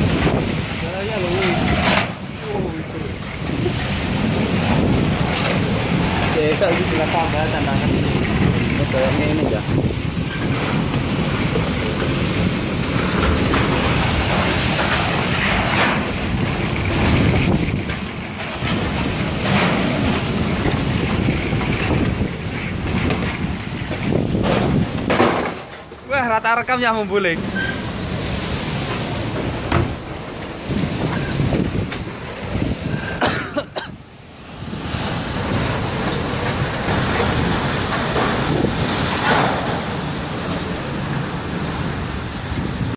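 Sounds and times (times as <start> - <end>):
strong gusting wind: 0.0 - 42.9.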